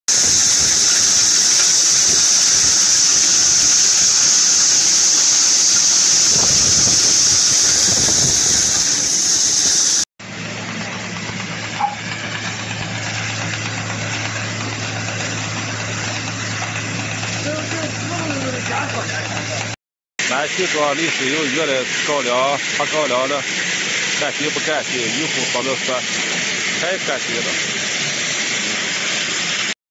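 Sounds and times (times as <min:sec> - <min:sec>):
thresher machine hum: 0:00.1 - 0:29.7
thresher with high hiss: 0:00.1 - 0:29.8.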